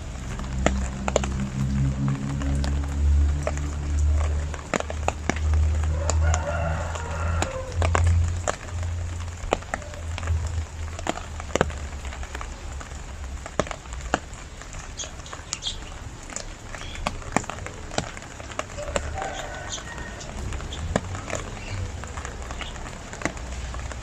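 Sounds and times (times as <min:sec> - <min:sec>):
rain hiss: 0:00.0 - 0:24.0
sharp drip ticks: 0:00.0 - 0:24.0.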